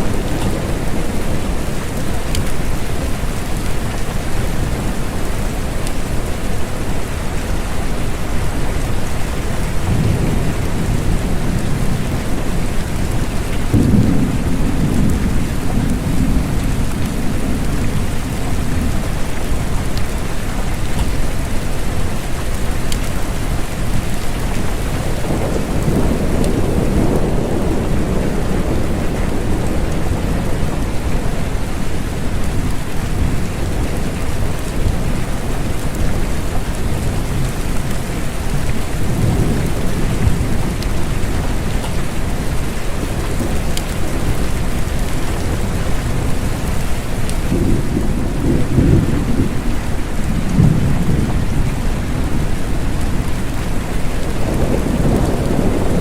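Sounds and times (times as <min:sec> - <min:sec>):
thunder rumbling: 0:00.0 - 0:22.0, 0:22.7 - 0:56.0
steady rain falling: 0:00.0 - 0:56.0.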